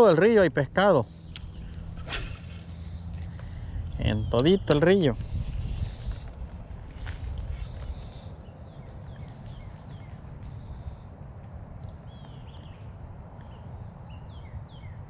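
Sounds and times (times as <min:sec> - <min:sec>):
birds chirping: 0:00.0 - 0:15.0
wind rumble on microphone: 0:01.0 - 0:15.0.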